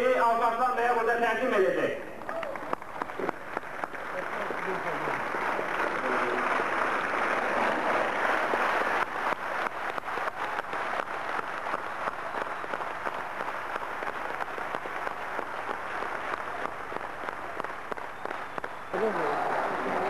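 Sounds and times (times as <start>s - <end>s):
crowd applauding: 2.1s - 20.0s.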